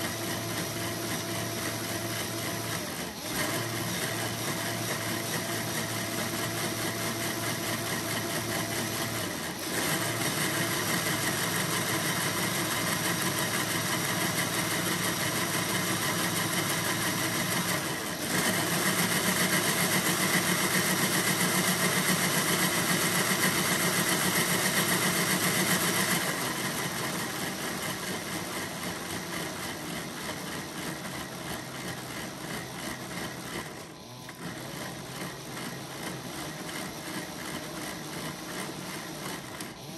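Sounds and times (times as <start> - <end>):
whir of plastic gears: 0.0 - 39.9.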